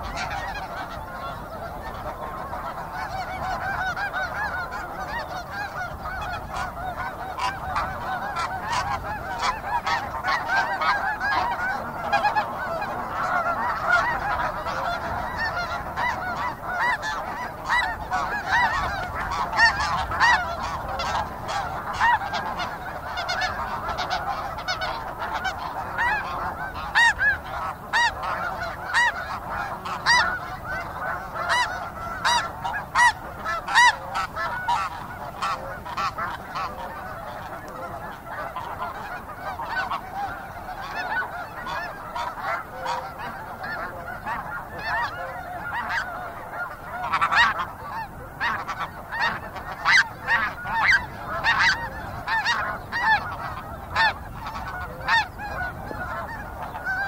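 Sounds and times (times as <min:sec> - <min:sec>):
flock of geese honking: 0:00.0 - 0:57.0
single goose calls: 0:00.0 - 0:57.0.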